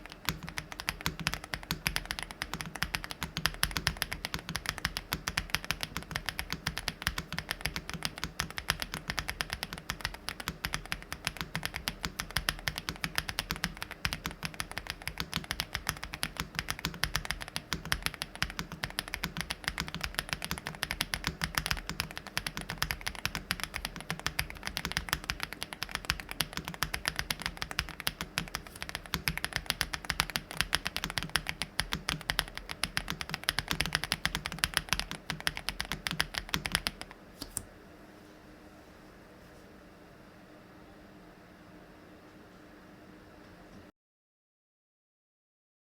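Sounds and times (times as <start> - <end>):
mechanical keyboard typing: 0.0 - 37.6.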